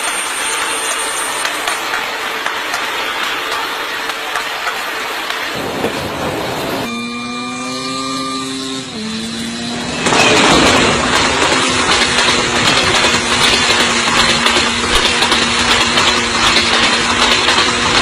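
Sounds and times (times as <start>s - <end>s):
train engine humming: 0.0s - 18.0s.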